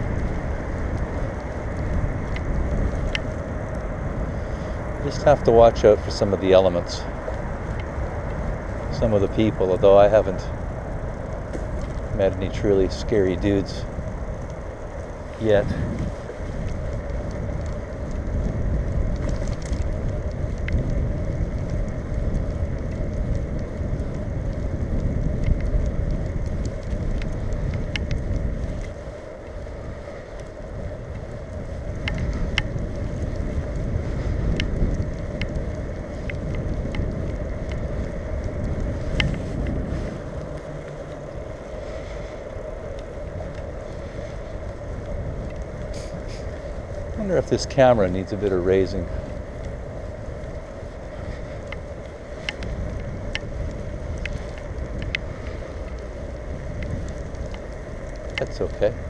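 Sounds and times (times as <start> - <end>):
bicycle rolling noise: 0.0 - 59.0
small clicks and rattles: 0.0 - 59.0
wind buffeting microphone: 0.0 - 59.0.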